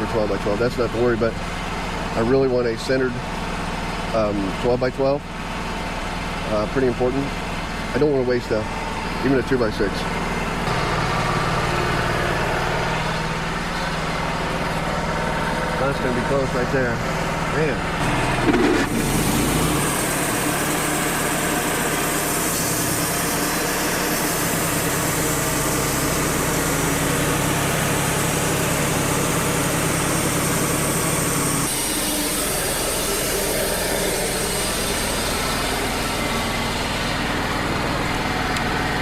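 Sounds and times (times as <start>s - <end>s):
band saw cutting log: 7.8s - 39.0s.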